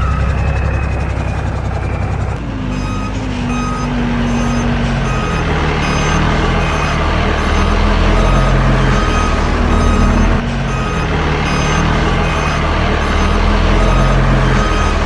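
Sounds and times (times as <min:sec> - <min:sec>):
diesel engine running loud: 0:00.0 - 0:15.0
reverse alarm beeping: 0:00.0 - 0:15.0.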